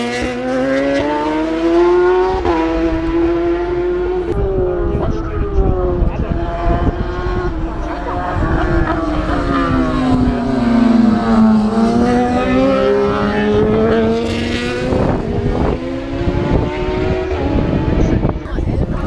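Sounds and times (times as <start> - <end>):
racing motorcycle engine: 0.0 - 19.0.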